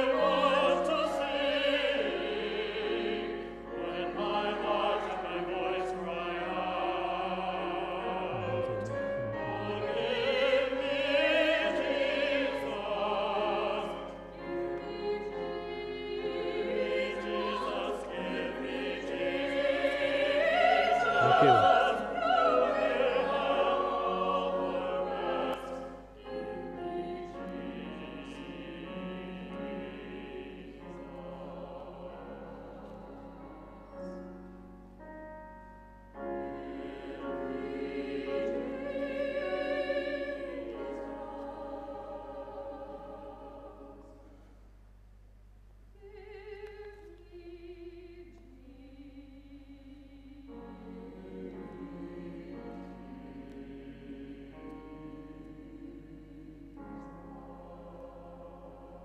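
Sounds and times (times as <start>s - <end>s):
church choir singing: 0.0s - 44.6s, 46.0s - 59.0s.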